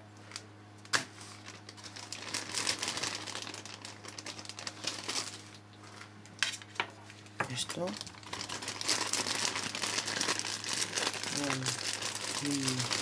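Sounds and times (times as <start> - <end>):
plastic packaging crinkling: 1.2 - 13.0.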